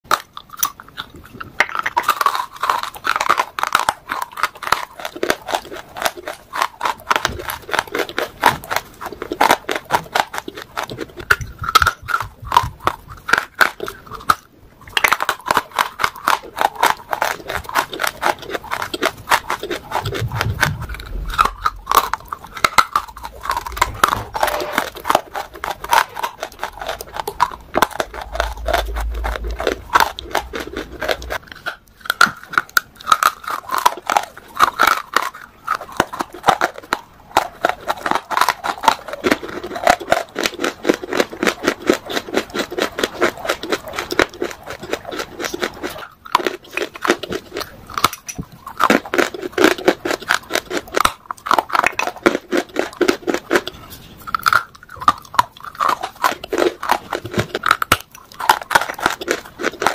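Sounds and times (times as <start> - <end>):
crunching rock between teeth: 0.0 - 59.9.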